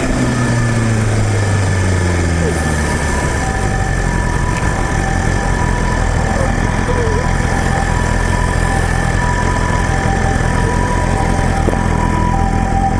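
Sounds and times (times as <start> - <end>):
ambulance two-tone siren: 0.0 - 12.9
motorcycle engine running: 0.0 - 12.9.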